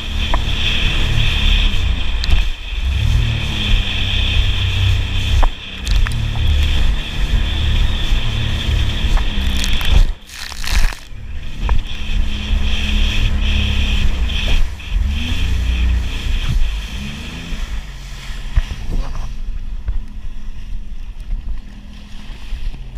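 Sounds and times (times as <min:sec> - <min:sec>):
engine whine: 0:00.0 - 0:22.9
watercraft engine running: 0:00.0 - 0:22.9.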